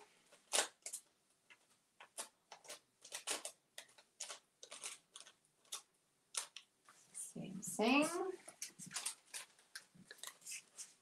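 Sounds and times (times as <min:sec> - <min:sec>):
paper crinkling: 0:00.2 - 0:07.1, 0:07.9 - 0:11.0.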